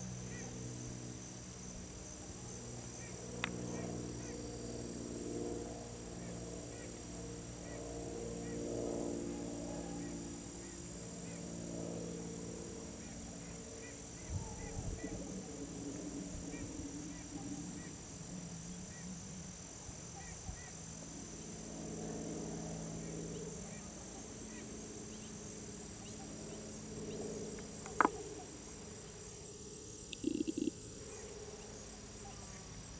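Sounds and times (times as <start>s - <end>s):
insects buzzing: 0.0s - 32.9s.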